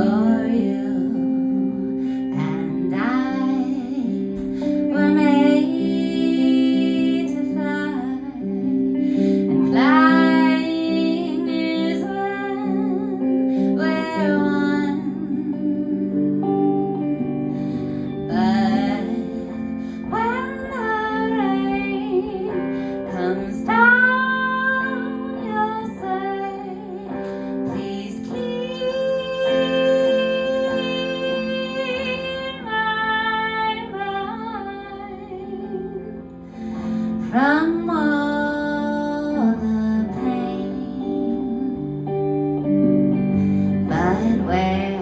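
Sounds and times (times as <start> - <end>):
plucked acoustic guitar: 0.0 - 45.0
woman singing folk song: 0.0 - 45.0.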